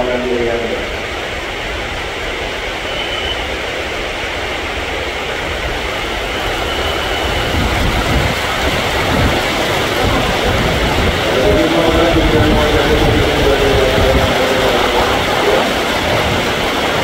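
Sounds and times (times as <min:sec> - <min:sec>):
electric train rumble: 0:00.0 - 0:17.0
heavy rain hissing: 0:00.0 - 0:17.0.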